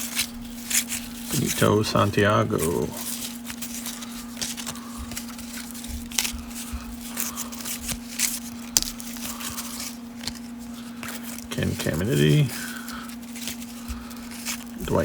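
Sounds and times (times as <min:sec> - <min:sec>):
cards sliding and flicking: 0:00.0 - 0:15.0
steady low hum: 0:00.0 - 0:15.0.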